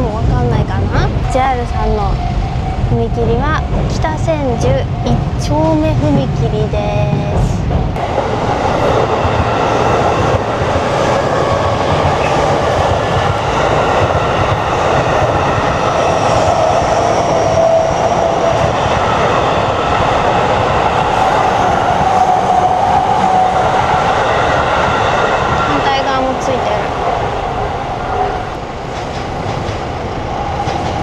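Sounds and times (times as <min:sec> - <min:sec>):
electric train rolling past: 0:00.0 - 0:31.0.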